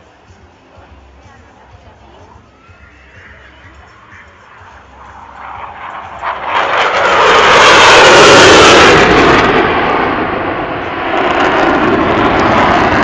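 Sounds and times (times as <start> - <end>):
airplane engine roar: 0.0 - 13.0.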